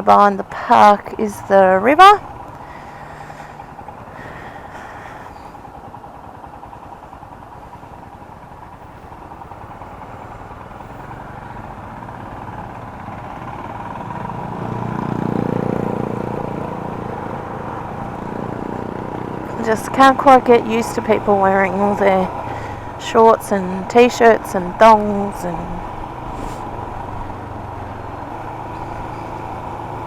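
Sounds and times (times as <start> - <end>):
motorcycle engine: 0.0 - 30.0
wind and road noise: 0.0 - 30.0.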